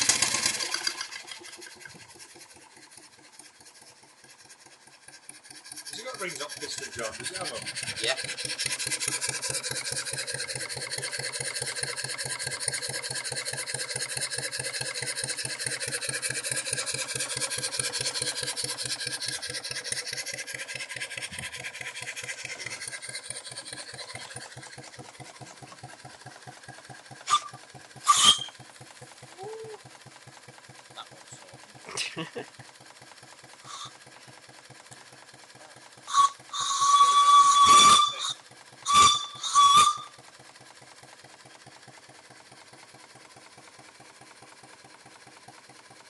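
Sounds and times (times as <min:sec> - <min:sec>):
steam hissing: 0:00.0 - 0:29.8, 0:30.4 - 0:43.2
steam engine beat: 0:00.0 - 0:46.0.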